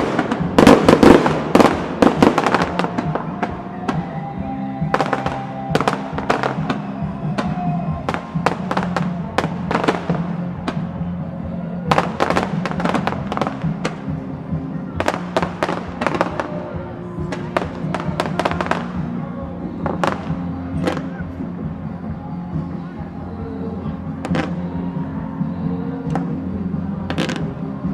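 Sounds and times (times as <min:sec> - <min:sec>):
fireworks bangs and crackles: 0:00.0 - 0:22.0, 0:24.2 - 0:24.9, 0:26.0 - 0:27.9
music playing: 0:00.0 - 0:27.9.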